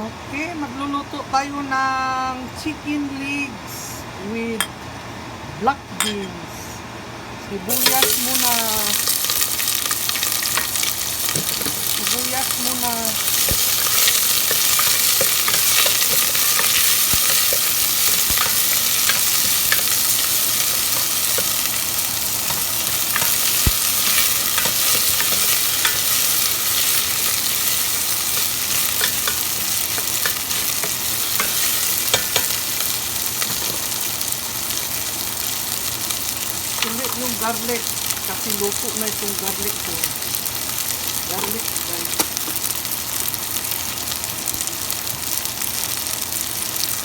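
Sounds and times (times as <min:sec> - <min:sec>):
onions sizzling in oil: 0:07.7 - 0:47.0.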